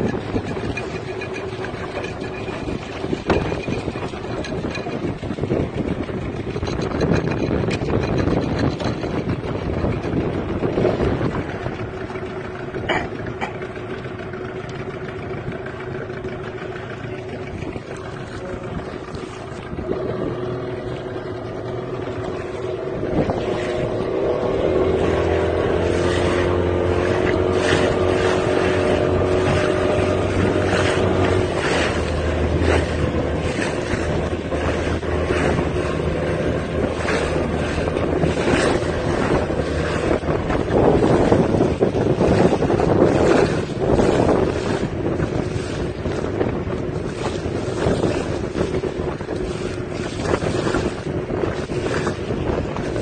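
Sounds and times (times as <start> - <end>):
motorboat engine running: 0.0 - 53.0
wind buffeting the microphone: 0.0 - 53.0.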